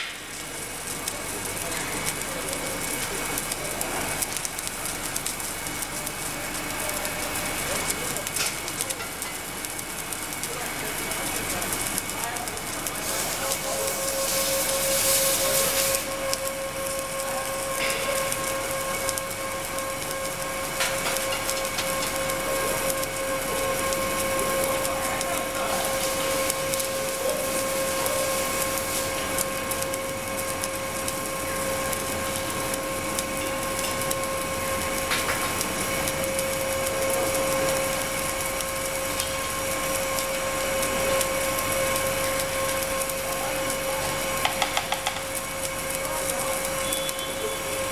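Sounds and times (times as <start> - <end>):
constant machine whine: 0.0 - 47.9
welding arc crackling hiss: 0.0 - 47.9.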